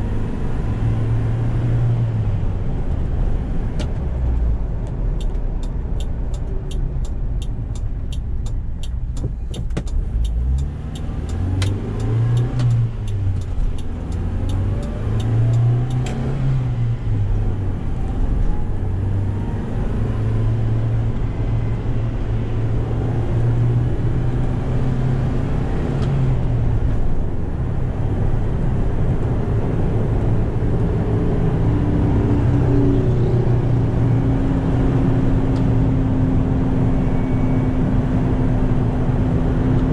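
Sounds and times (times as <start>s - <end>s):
truck engine accelerating through gears: 0.0s - 39.9s.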